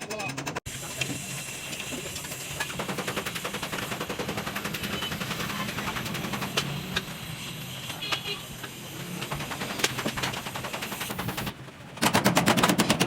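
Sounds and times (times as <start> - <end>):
power tool rattling: 0.0 - 7.3, 8.2 - 13.0.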